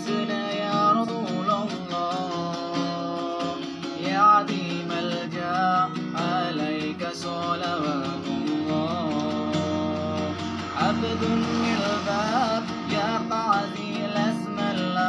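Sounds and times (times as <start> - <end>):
man singing devotional song: 0.0 - 15.0
strummed acoustic guitar: 0.0 - 15.0.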